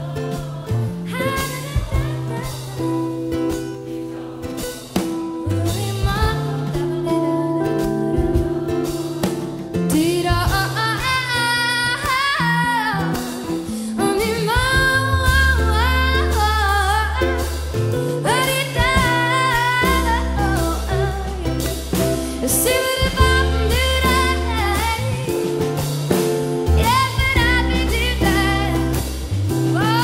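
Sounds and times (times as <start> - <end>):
low bass line: 0.0 - 11.3, 14.3 - 30.0
acoustic guitar and band: 0.0 - 30.0
woman singing: 0.0 - 30.0.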